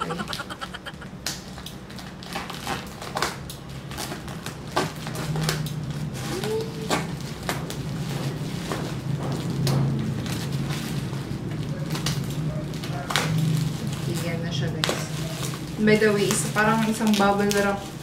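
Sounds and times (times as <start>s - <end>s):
plastic crinkling and crackling: 1.9s - 18.0s.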